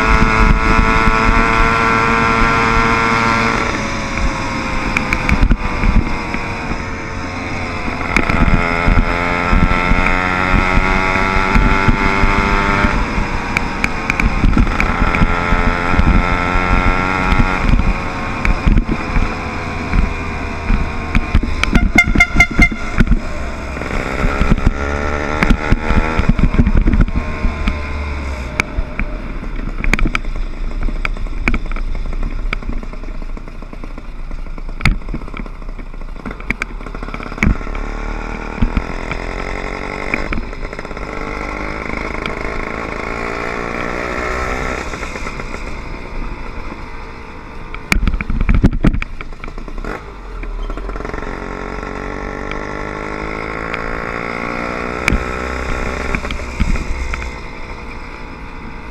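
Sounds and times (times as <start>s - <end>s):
small motorbike engine revving: 0.0s - 30.4s, 34.6s - 58.9s.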